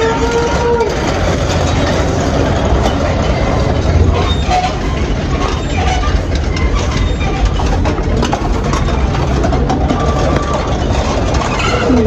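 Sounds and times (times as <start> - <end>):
road noise: 0.0 - 12.0
small rattles: 0.0 - 12.0
vehicle engine rumble: 0.0 - 12.0.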